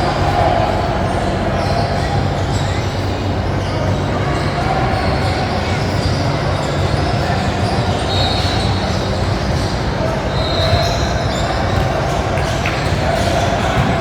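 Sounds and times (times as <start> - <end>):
gym court and crowd din: 0.0 - 14.0.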